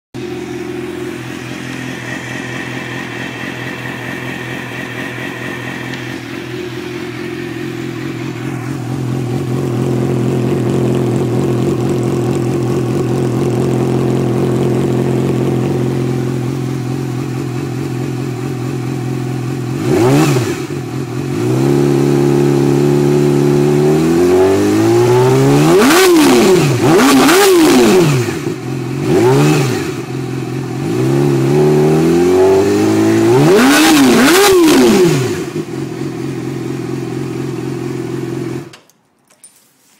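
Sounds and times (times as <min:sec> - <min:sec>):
motorcycle engine idling and revving: 0:00.1 - 0:38.8.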